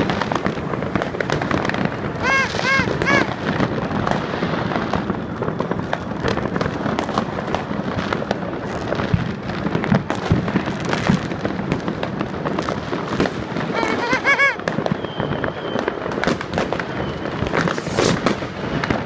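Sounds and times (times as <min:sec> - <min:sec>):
fireworks crackling and popping: 0:00.0 - 0:19.0
loud firework bangs: 0:00.0 - 0:19.0.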